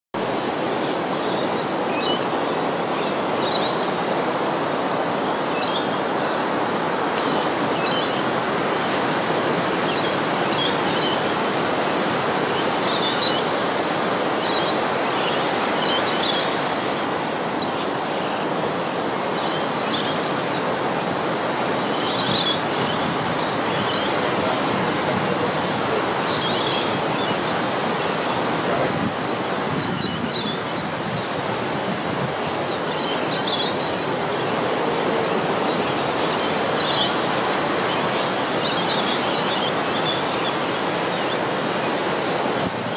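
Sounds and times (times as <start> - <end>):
ocean surf breaking on beach: 0.2 - 42.9.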